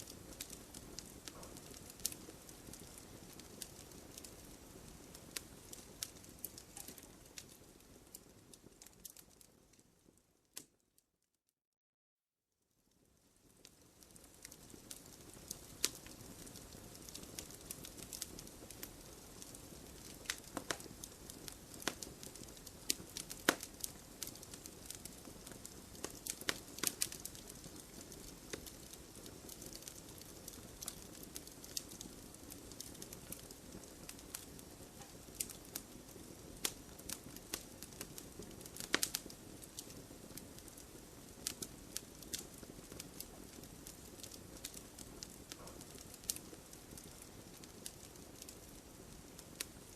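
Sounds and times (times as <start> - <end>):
campfire crackling and popping: 0.0 - 10.8, 13.0 - 49.9.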